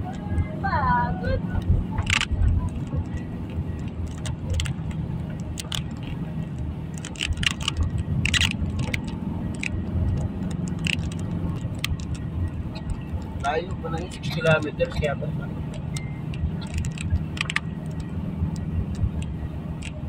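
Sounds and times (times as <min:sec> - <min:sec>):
vehicle engine humming: 0:00.0 - 0:20.0
jangling and clicking rattles: 0:01.6 - 0:20.0.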